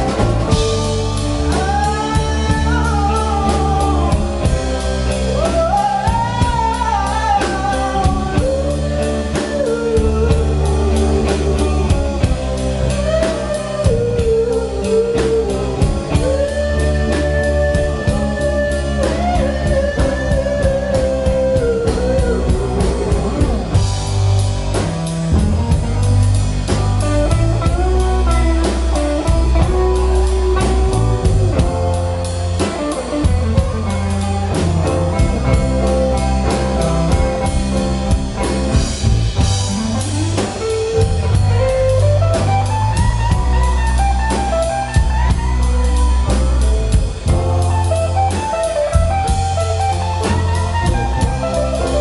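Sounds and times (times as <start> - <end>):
acoustic and electric guitars: 0.0 - 52.0
drum kit: 0.0 - 52.0
electric bass: 0.0 - 52.0.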